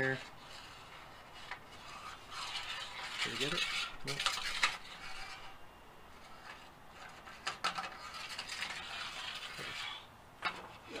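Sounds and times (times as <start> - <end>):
metallic clicks and scraping: 0.0 - 5.6, 6.2 - 11.0.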